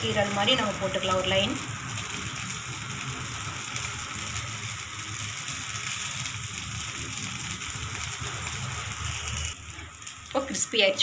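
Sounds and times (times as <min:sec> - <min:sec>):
batter sizzling on a griddle: 0:00.0 - 0:11.0.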